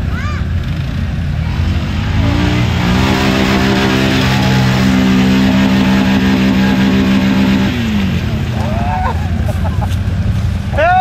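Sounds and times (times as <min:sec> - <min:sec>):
quad bike engine revving: 0:00.0 - 0:10.7.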